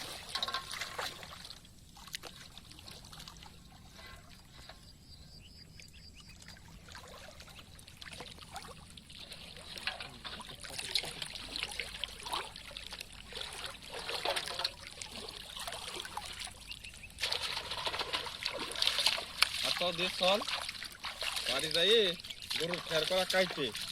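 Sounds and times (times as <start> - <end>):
water splashing and trickling: 0.0 - 23.9.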